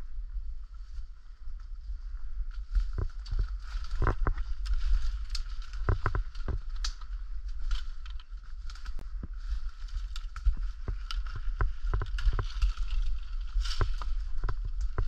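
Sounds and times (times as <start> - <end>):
low microphone rumble: 0.0 - 15.0
footsteps through brush: 0.8 - 15.0
twigs snapping: 2.5 - 15.0.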